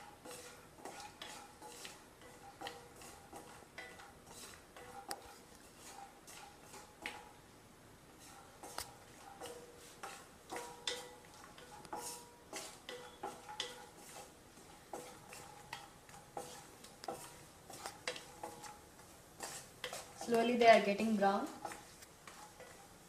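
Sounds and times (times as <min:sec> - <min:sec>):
nuts frying in fat: 0:00.0 - 0:23.0.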